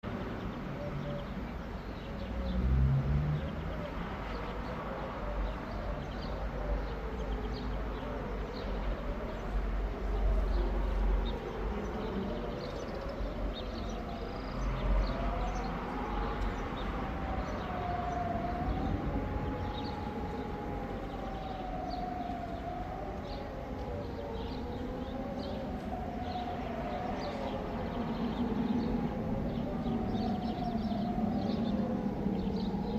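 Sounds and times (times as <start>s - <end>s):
sirens wailing: 0.1s - 32.9s.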